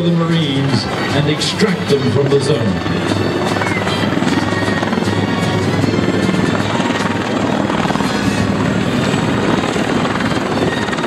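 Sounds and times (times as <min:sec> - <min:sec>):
helicopter rotor and turbine noise: 0:00.0 - 0:11.0.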